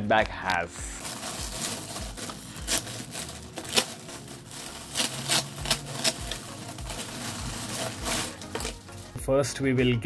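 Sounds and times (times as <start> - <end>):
package clicks and crinkling: 0.2 - 8.9.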